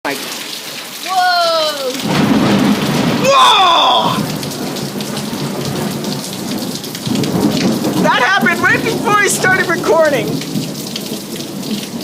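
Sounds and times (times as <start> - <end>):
heavy rain pouring: 0.1 - 12.0
thunder rumble: 2.0 - 12.0.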